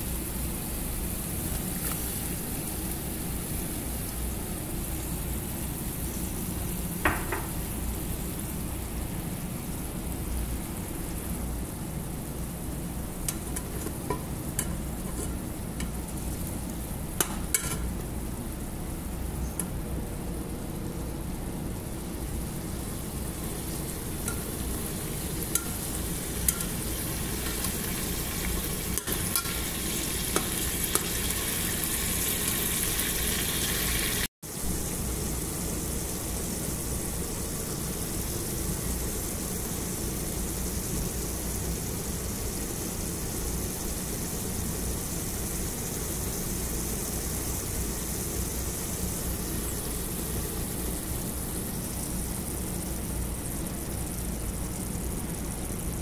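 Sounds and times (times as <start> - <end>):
food sizzling in a pot: 0.0 - 56.0.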